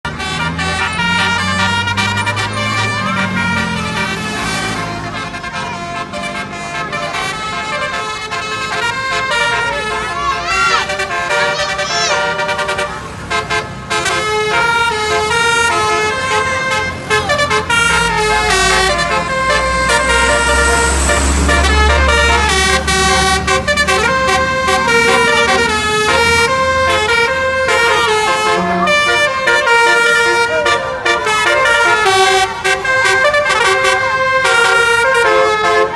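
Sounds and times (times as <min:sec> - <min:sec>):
musical air horn melody: 0:00.1 - 0:35.9
low engine rumble: 0:00.2 - 0:34.9.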